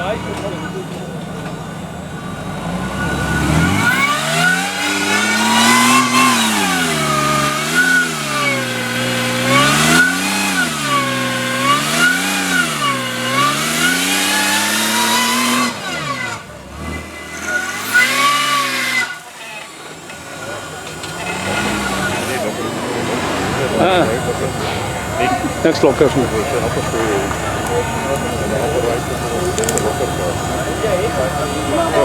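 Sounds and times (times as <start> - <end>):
engine revving: 0.0 - 32.0.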